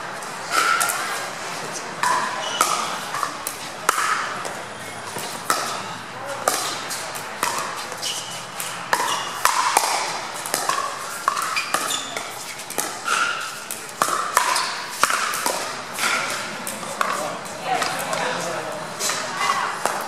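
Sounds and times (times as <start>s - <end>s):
ball bouncing on court: 0.5s - 1.2s, 2.0s - 18.4s, 19.0s - 20.0s.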